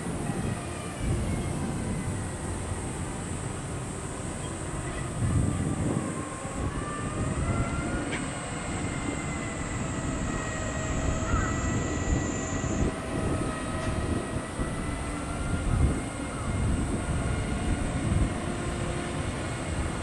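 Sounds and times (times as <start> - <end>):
airplane engines rumbling overhead: 0.0 - 20.0
faint gliding whining tones: 0.0 - 20.0
high cicada buzz: 0.0 - 20.0.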